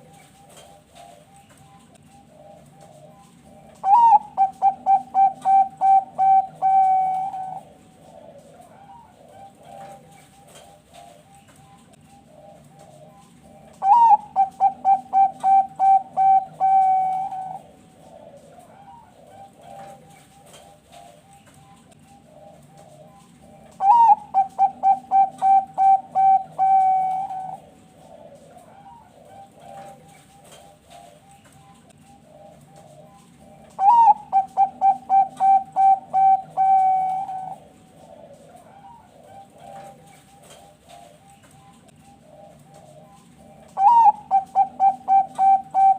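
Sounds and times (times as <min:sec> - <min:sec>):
faint dove cooing: 0:00.0 - 0:45.9
zebra dove cooing song: 0:00.0 - 0:45.9.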